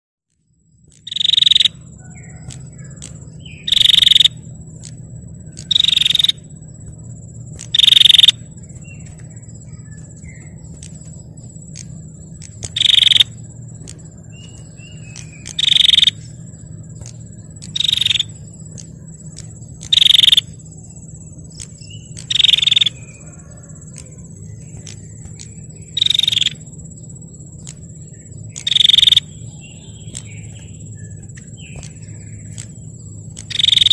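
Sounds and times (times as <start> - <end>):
low hum: 0.3 - 33.9
bird trilled calls: 0.9 - 6.9, 7.5 - 33.9.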